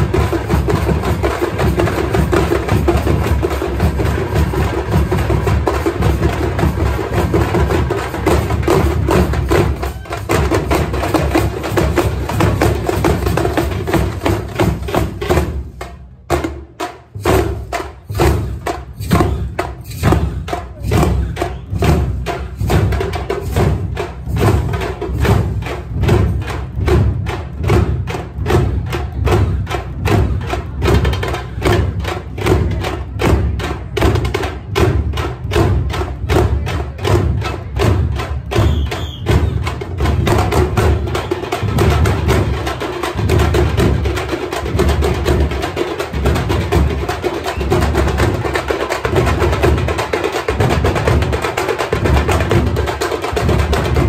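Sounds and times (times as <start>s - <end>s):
barrel drums: 0.0s - 54.0s
frame drums beaten with sticks: 0.0s - 54.0s.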